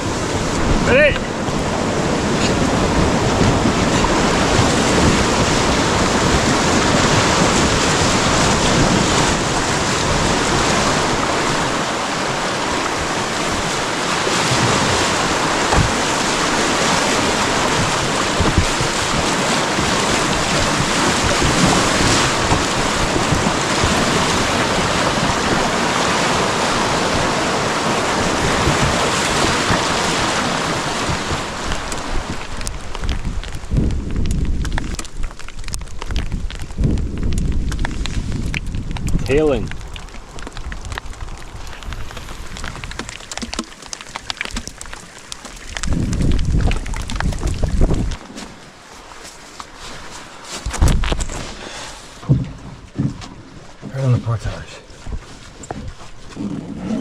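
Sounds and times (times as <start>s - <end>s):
rushing whitewater: 0.0s - 33.8s, 39.3s - 57.0s.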